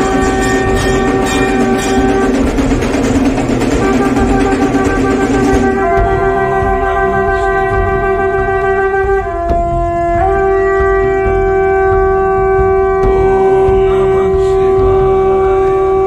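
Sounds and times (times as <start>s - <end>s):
conch shell blown: 0.0s - 3.1s, 3.7s - 16.0s.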